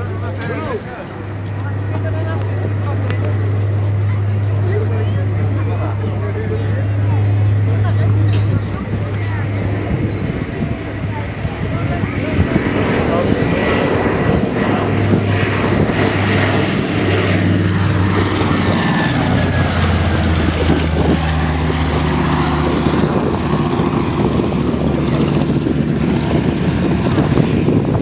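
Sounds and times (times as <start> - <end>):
propeller plane engines droning: 0.0 - 28.0.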